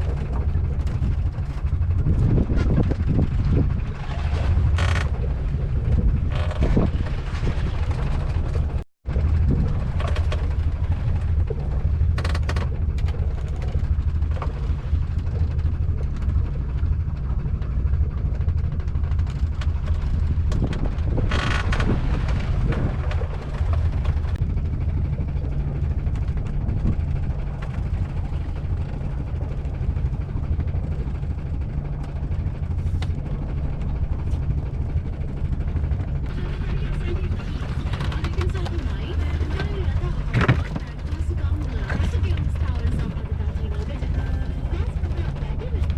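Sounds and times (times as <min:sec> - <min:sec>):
boat engine humming: 0:00.0 - 0:45.9
water noise: 0:00.0 - 0:45.9
wind: 0:00.0 - 0:45.9.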